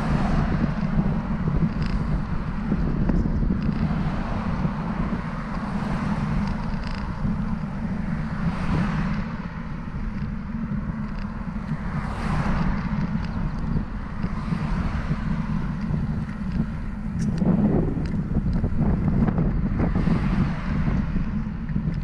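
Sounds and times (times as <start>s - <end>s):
road noise: 0.0s - 22.0s
traffic passing: 0.0s - 22.0s
wind rumbling on microphone: 0.0s - 22.0s.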